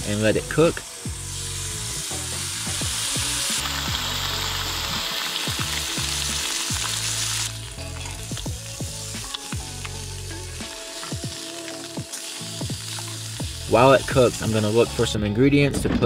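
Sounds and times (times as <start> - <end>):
fish sizzling in a frying pan: 0.0 - 15.1.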